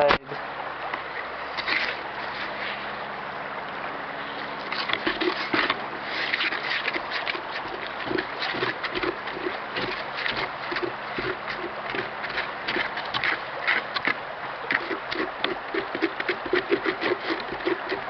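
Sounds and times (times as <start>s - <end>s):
stick scraping wet cement: 1.5s - 2.9s, 4.6s - 18.0s.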